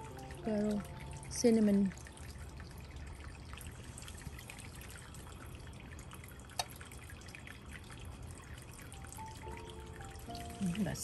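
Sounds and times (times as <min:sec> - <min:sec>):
pudding bubbling and popping: 0:00.0 - 0:11.0.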